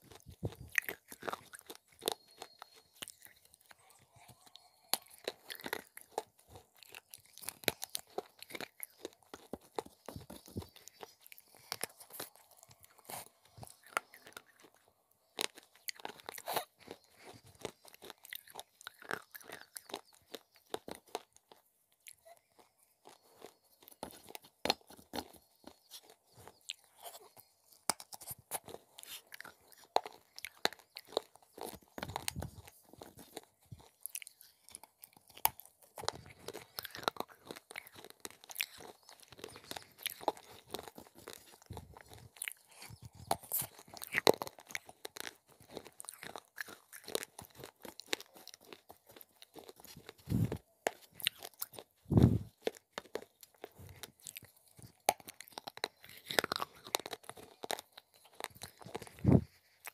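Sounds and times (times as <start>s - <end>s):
crunching and chewing clay pieces: 0.0s - 59.9s.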